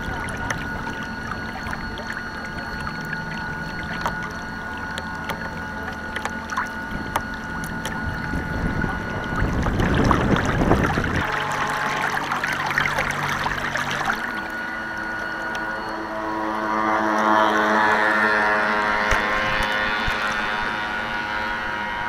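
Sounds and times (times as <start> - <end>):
water splashing: 0.0 - 21.7
low hum: 0.0 - 22.0
model boat electric motor whine: 0.0 - 22.0.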